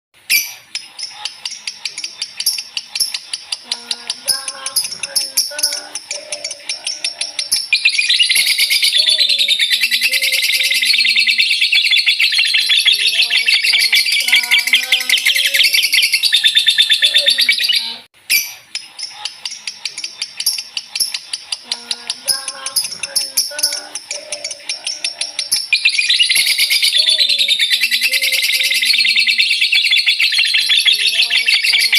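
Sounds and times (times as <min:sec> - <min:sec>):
lovebird chattering: 0:00.2 - 0:31.9.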